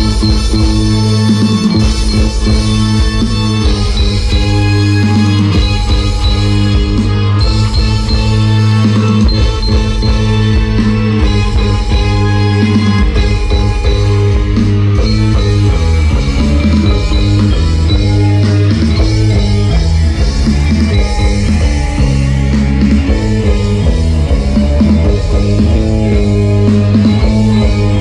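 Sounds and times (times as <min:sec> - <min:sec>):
loud music with heavy bass: 0:00.0 - 0:28.0.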